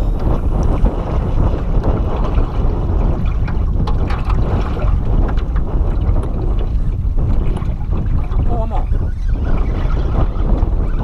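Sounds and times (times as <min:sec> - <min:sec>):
water slapping against boat hull: 0:00.0 - 0:11.0
wind rumbling on microphone: 0:00.0 - 0:11.0.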